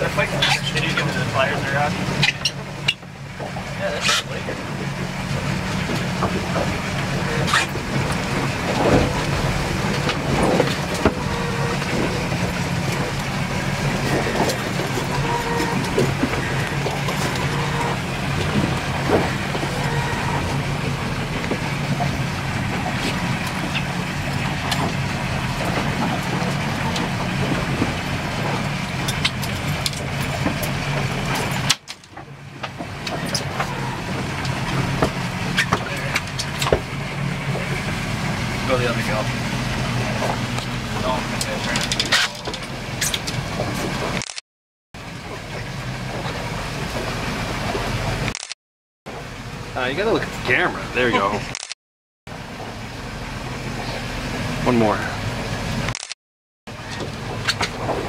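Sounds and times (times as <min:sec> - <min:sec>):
boat engine running: 0:00.0 - 0:44.3, 0:49.1 - 0:51.7, 0:52.3 - 0:56.1, 0:56.7 - 0:58.0
wind: 0:00.0 - 0:44.4, 0:45.0 - 0:58.0.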